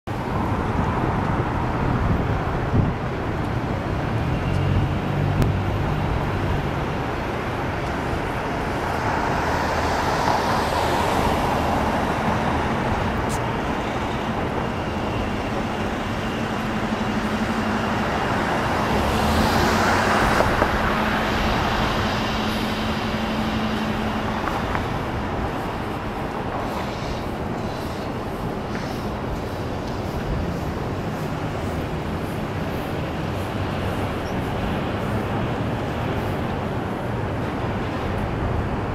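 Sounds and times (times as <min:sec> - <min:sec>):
city road traffic: 0:00.0 - 0:38.9
vehicles passing: 0:00.1 - 0:38.9.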